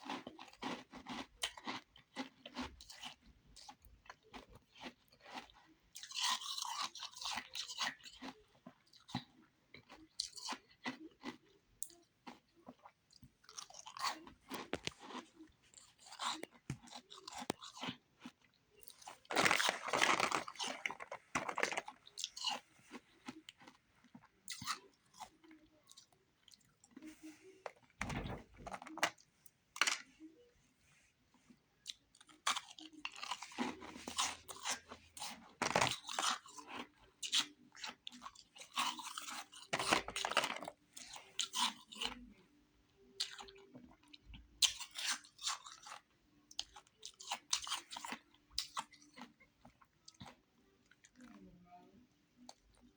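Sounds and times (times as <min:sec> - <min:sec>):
chewing crunchy ice: 0:00.0 - 0:27.3, 0:31.8 - 0:42.3, 0:43.1 - 0:51.5.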